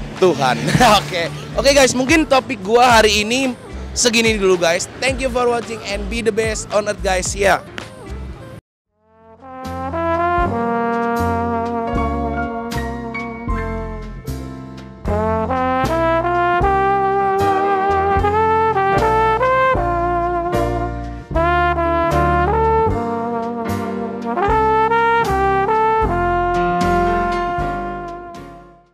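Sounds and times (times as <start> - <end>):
upbeat brass-led music: 0.0 - 8.4, 9.1 - 28.9.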